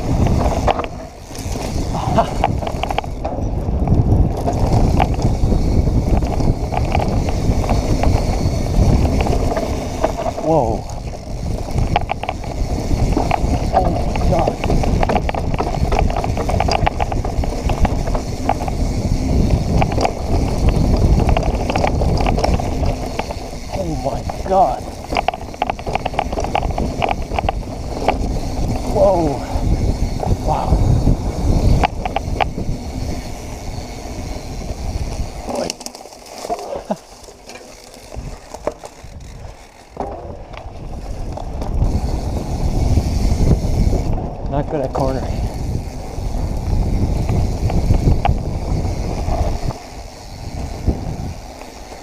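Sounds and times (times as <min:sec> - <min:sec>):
wind on the microphone: 0:00.0 - 0:35.8, 0:38.0 - 0:52.0
bike clicking and rattling: 0:00.0 - 0:52.0
bike tyres rumbling on trail: 0:00.0 - 0:52.0.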